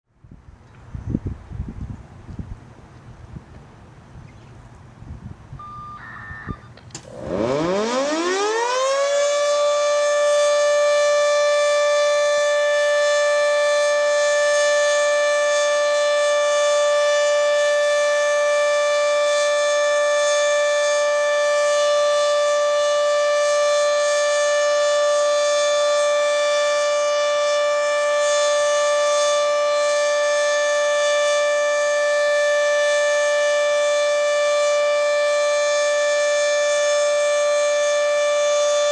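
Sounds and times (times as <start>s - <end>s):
two-tone tornado siren: 5.6s - 38.9s.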